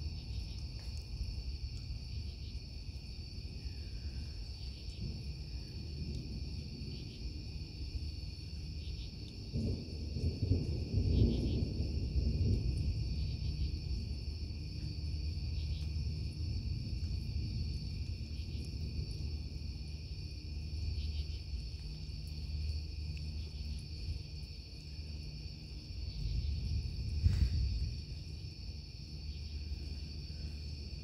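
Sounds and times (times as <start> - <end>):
crickets and insects chirring: 0.0 - 31.0
distant thunder rumbling: 3.6 - 31.0.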